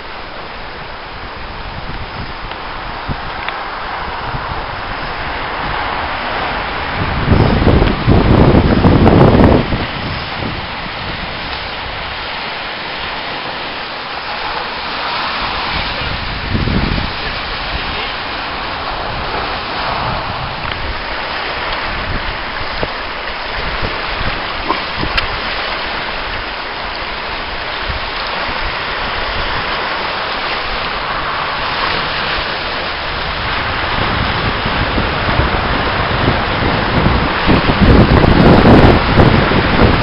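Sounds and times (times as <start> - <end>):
waves breaking against rocks: 0.0 - 40.0
wind rumbling on microphone: 0.0 - 40.0.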